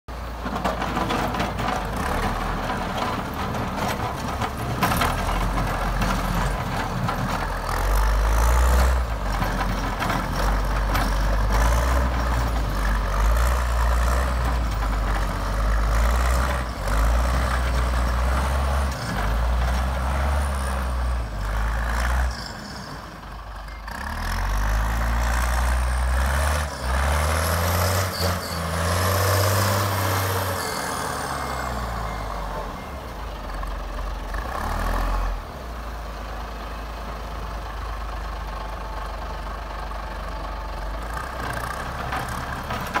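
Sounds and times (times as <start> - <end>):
diesel grader engine revving: 0.1 - 43.0.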